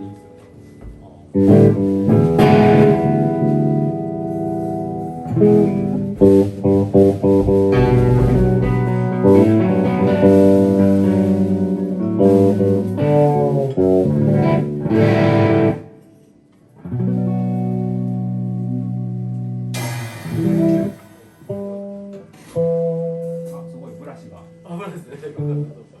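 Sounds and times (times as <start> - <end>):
improvised band music: 0.0 - 16.0, 17.0 - 23.7
plucked strings: 0.0 - 16.2, 16.8 - 24.6.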